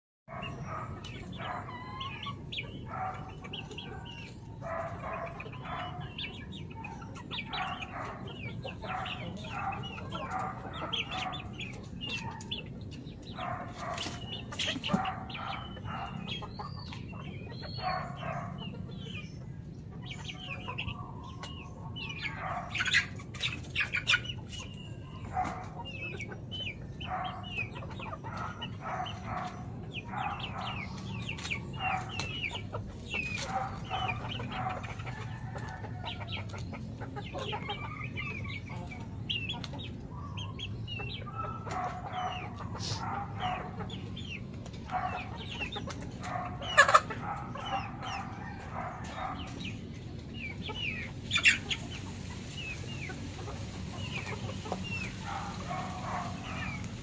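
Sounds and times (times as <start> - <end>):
chickens clucking: 0.3 - 57.0.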